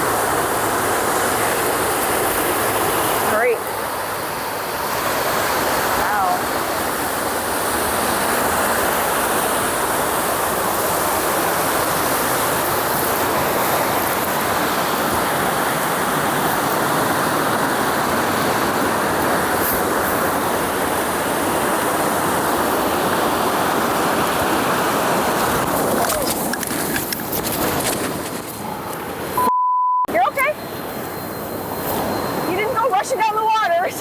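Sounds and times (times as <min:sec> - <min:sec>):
waterfall rushing over rocks: 0:00.0 - 0:29.3.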